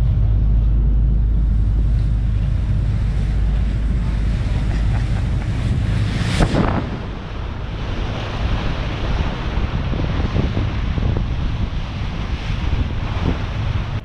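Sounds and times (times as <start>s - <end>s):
steady low rumble: 0.0s - 14.0s
wind buffeting microphone: 0.0s - 14.0s.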